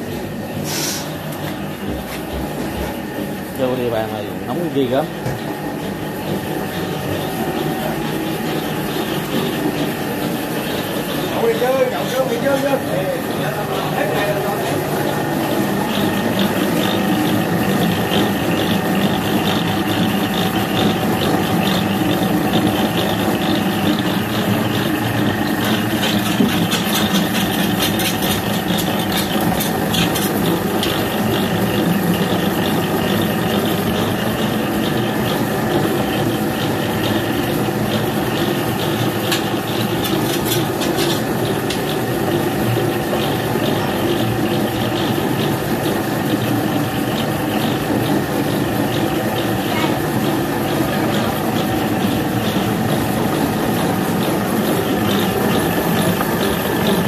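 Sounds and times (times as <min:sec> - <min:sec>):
dough kneading machine running: 0:00.0 - 0:57.0.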